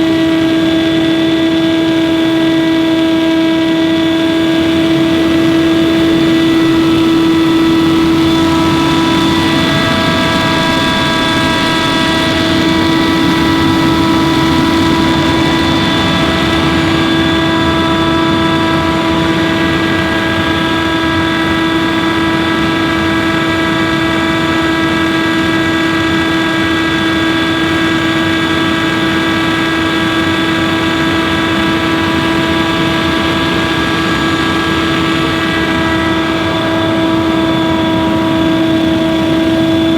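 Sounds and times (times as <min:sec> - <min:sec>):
leaf blower whining: 0:00.0 - 0:39.9.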